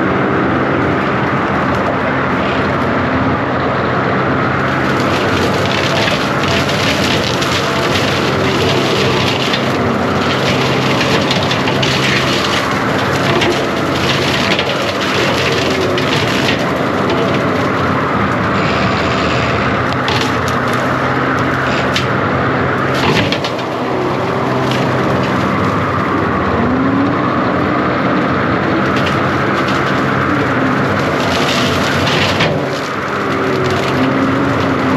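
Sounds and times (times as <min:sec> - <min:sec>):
diesel engine under load: 0:00.0 - 0:34.9
wood cracking and splintering: 0:00.5 - 0:34.9.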